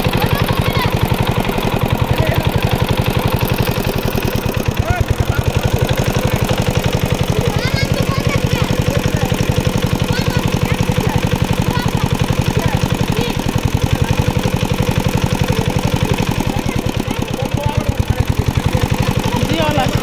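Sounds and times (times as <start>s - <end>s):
water pump engine chugging: 0.0s - 20.0s.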